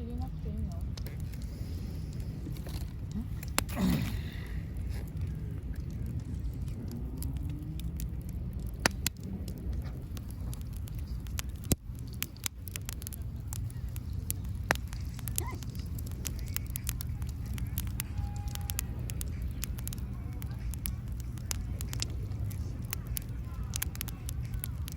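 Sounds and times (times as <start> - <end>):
bonfire crackling and popping: 0.0 - 24.9.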